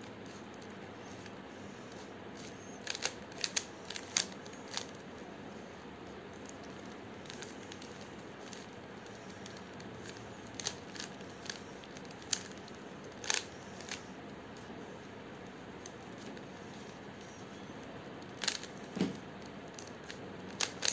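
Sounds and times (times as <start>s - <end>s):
speed cube twisting clicks: 0.5s - 5.2s, 6.4s - 14.7s, 15.8s - 20.9s.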